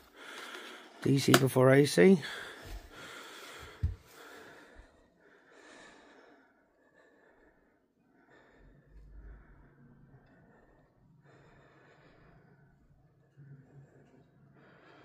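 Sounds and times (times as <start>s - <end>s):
faint breathing: 0.0s - 1.0s, 2.2s - 15.0s.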